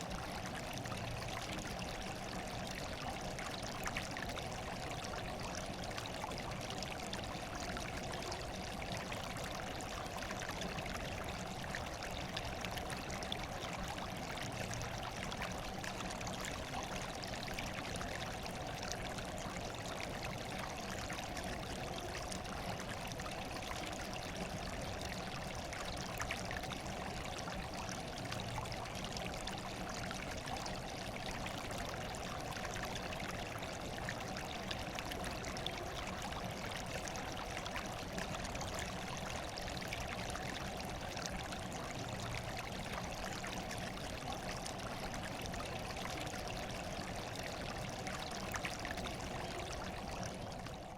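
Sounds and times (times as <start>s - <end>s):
water trickling and splashing: 0.0s - 50.9s.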